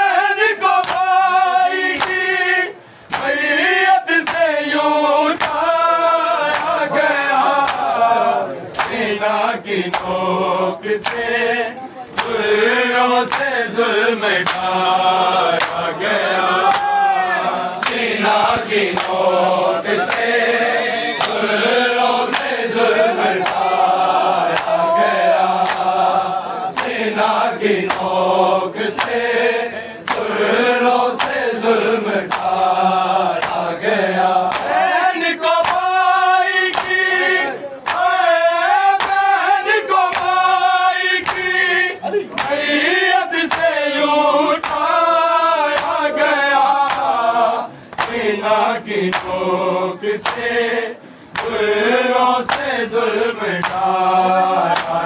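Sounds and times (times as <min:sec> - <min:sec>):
men chanting a lament: 0:00.0 - 0:55.0.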